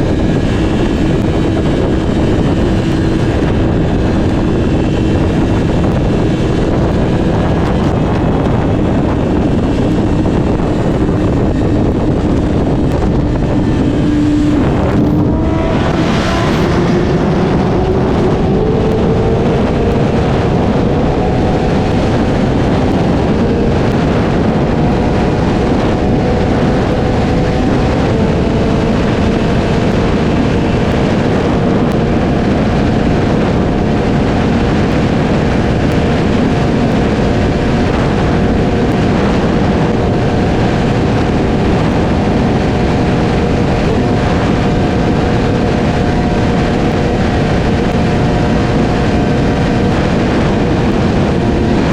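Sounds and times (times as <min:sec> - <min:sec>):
motorcycle engine at high revs: 0:00.0 - 0:51.9
wind and road noise: 0:00.0 - 0:51.9.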